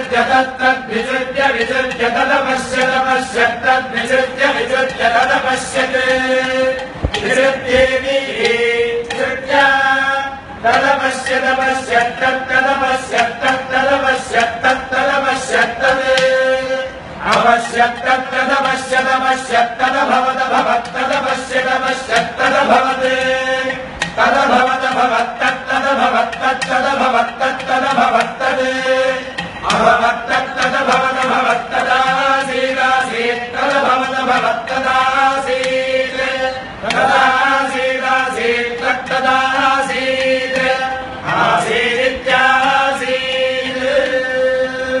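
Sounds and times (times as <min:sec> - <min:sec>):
male voices chanting in unison: 0:00.0 - 0:45.0.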